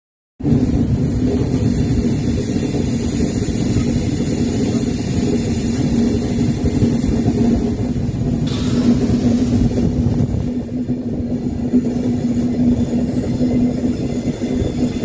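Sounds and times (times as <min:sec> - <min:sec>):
train rumbling on track: 0:00.4 - 0:15.0.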